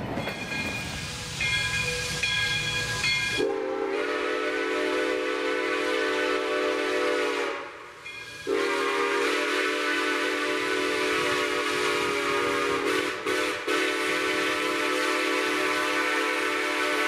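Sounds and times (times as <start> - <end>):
train rumbling past: 0.0 - 17.0
steam whistle chord: 1.3 - 17.0.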